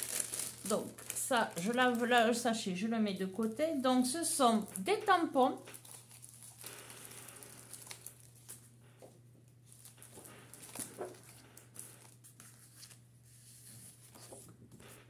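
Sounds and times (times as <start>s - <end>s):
plastic sleeve rustling: 0.0s - 14.5s.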